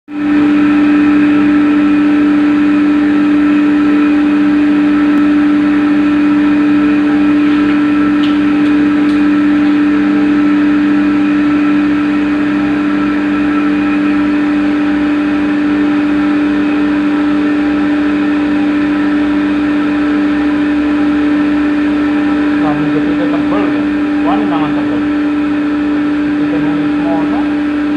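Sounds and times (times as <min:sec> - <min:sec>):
machine humming: 0:00.1 - 0:27.9.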